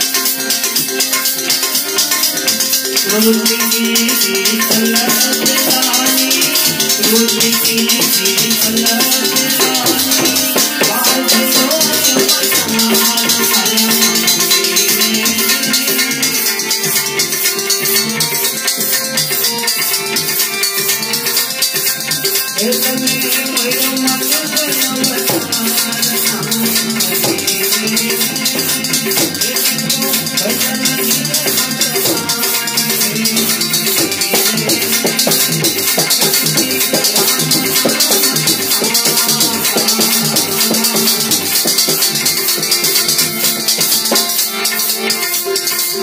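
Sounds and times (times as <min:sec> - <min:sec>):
harmonium melody: 0:00.0 - 0:46.0
tabla drumming: 0:00.0 - 0:46.0.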